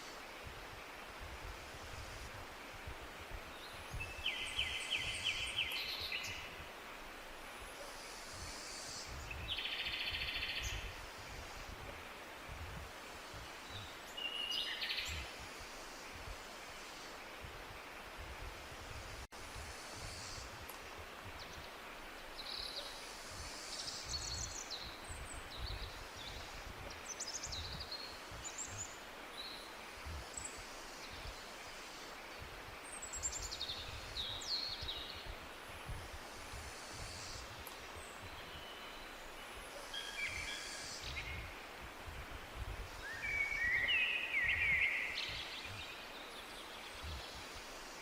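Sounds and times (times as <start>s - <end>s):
steady hiss: 0.0s - 48.0s.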